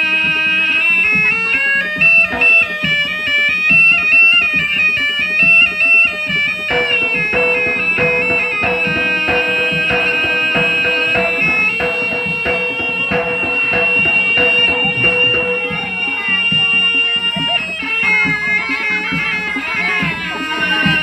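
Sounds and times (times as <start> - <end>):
drumming: 0.0 - 21.0
reedy shawm melody: 0.0 - 21.0.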